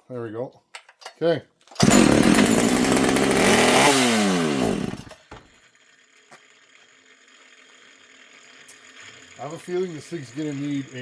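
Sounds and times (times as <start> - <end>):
chainsaw running and stalling: 1.8 - 11.0.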